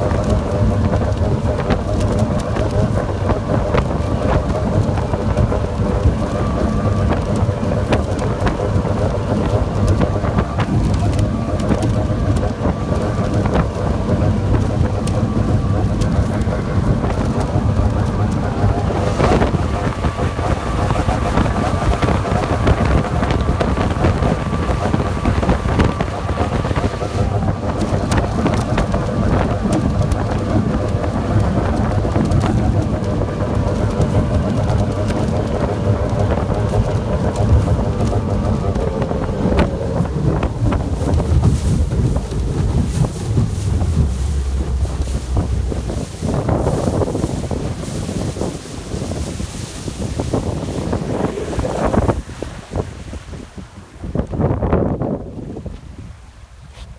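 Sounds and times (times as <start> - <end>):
hull knocking on waves: 0.0 - 56.9
outboard engine at full throttle: 0.0 - 56.9
wind on microphone: 0.0 - 56.9.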